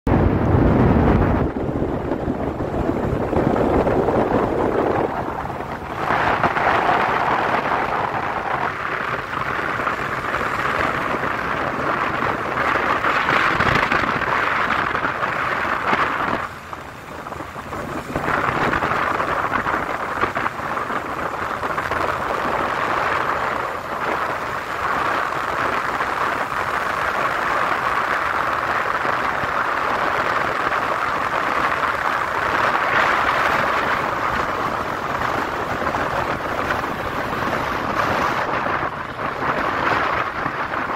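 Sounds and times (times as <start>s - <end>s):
wind rushing over microphone: 0.0s - 40.9s
tyre and road noise: 0.1s - 40.9s.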